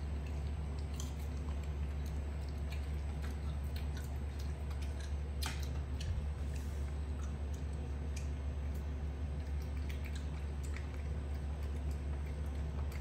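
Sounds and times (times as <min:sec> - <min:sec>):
monkey chewing leafy greens: 0:00.0 - 0:13.0.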